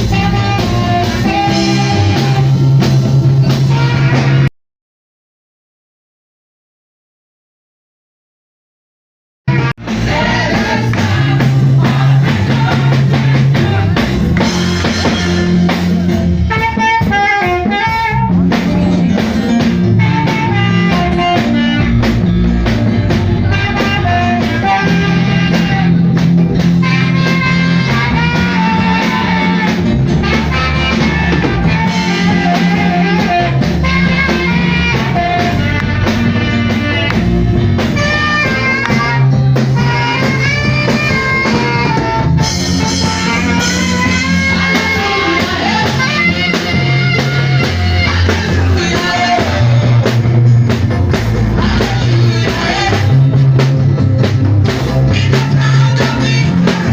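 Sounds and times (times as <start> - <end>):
bass guitar: 0.0 - 4.5, 9.5 - 56.9
drum kit groove: 0.0 - 4.5, 9.5 - 56.9
melodic lead line: 9.6 - 56.9.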